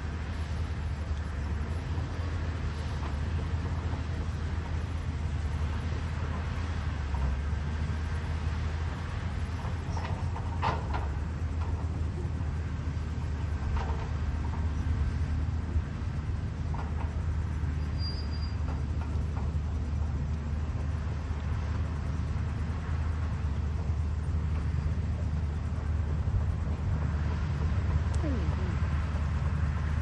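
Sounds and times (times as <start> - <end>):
excavator diesel engine droning: 0.0 - 30.0.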